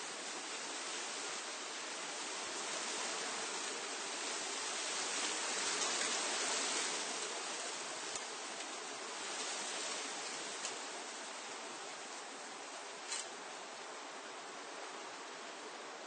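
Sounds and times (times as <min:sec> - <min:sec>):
wind rustling leaves: 0:00.0 - 0:16.0.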